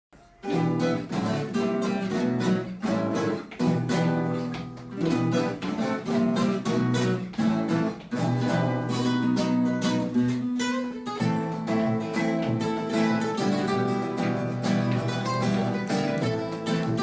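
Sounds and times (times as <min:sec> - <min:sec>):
acoustic guitar chords: 0:00.2 - 0:17.0.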